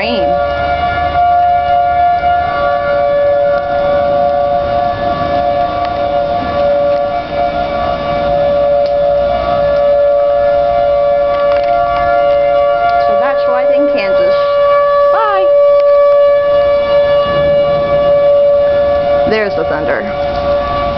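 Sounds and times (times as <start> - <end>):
two-tone warning siren: 0.0 - 20.9.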